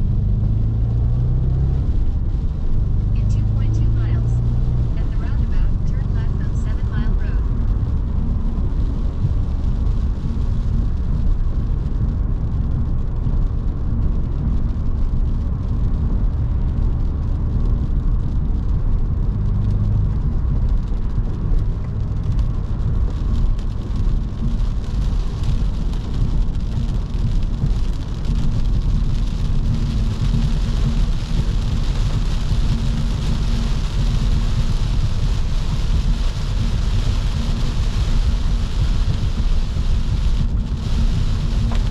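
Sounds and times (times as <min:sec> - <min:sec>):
car engine and tyre drone: 0:00.0 - 0:41.9
rain and wet tyre spray hiss: 0:00.0 - 0:41.9.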